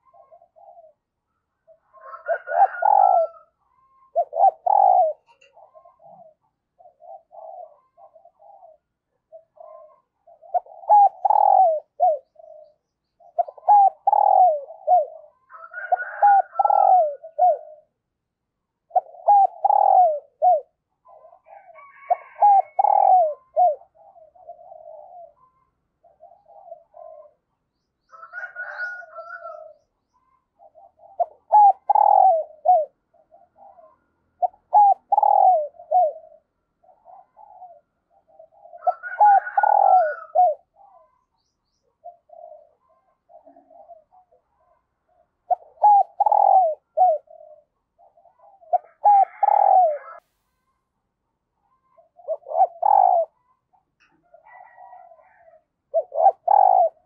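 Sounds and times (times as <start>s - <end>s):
dove cooing: 0.0s - 18.2s, 18.8s - 50.2s, 51.7s - 57.0s.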